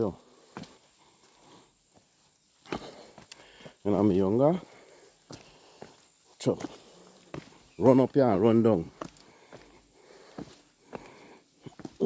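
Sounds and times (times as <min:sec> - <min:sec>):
faint footsteps: 0:00.1 - 0:12.0.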